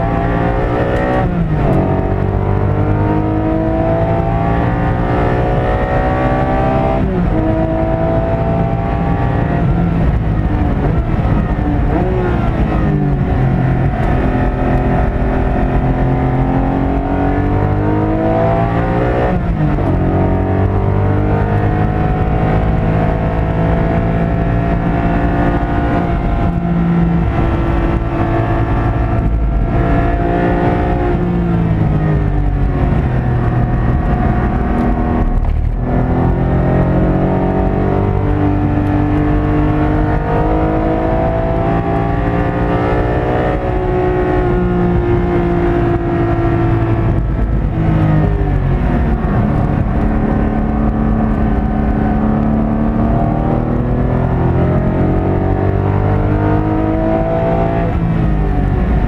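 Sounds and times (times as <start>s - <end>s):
car engine accelerating: 0.0s - 59.0s
tyre and road noise: 0.0s - 59.0s.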